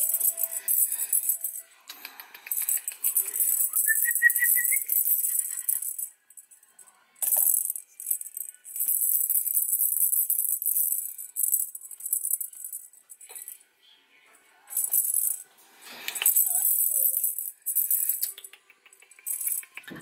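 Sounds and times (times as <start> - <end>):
hand rattle shaken: 0.0 - 6.6, 7.2 - 13.6, 14.7 - 15.4, 16.0 - 20.0.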